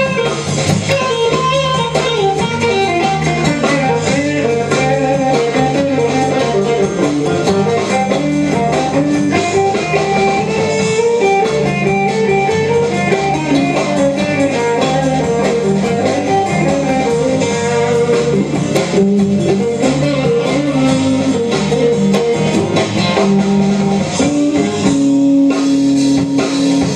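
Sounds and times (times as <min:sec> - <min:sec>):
guitar-led instrumental band music: 0:00.0 - 0:26.9.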